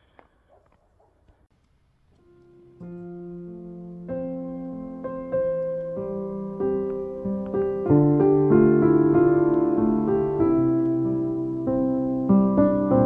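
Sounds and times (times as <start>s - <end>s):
slow piano music: 2.2s - 13.0s.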